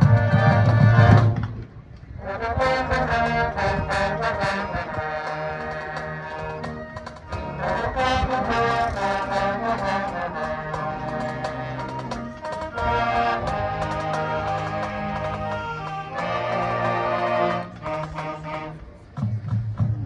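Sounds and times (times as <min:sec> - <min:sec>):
brass sustained chords: 0:00.0 - 0:01.4, 0:02.2 - 0:19.2
marching band playing: 0:00.0 - 0:20.0.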